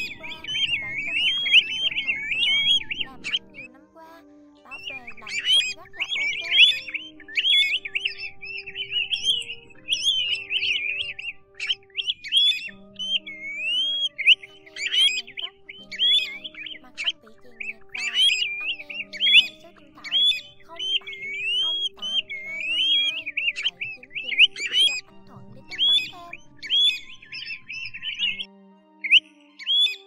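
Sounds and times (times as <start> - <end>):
plover flock calling: 0.0 - 28.5
soft background music: 0.0 - 30.0.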